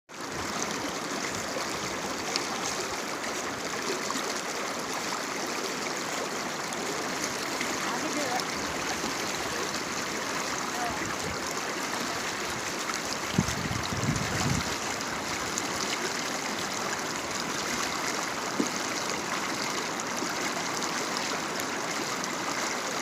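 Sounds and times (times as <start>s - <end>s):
stream water rushing: 0.1s - 23.0s.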